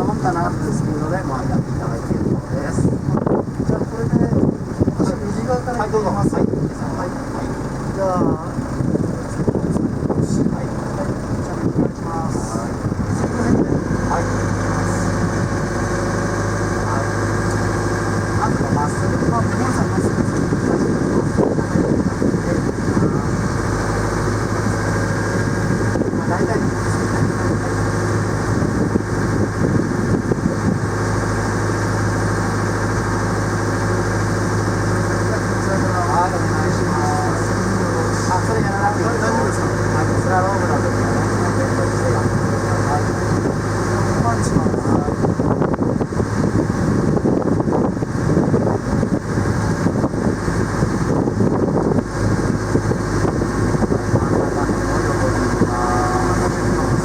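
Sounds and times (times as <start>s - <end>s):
motorboat engine humming: 0.0s - 57.0s
wind noise on microphone: 0.0s - 57.0s.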